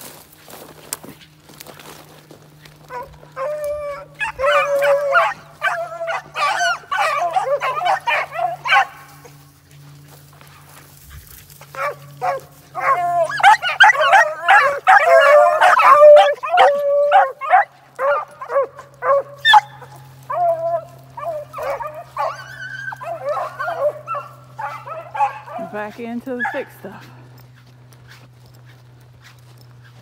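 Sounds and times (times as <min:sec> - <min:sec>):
hounds baying: 0:01.6 - 0:30.0.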